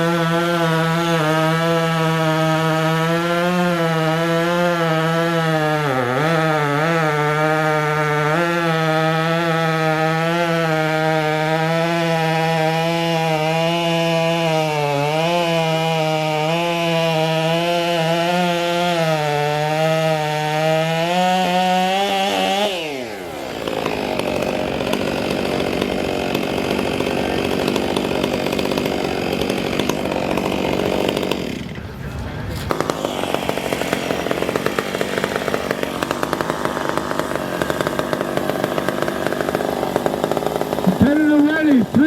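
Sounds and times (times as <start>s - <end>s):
chainsaw running flat out: 0.0s - 42.0s
loud rough noise: 6.0s - 42.0s.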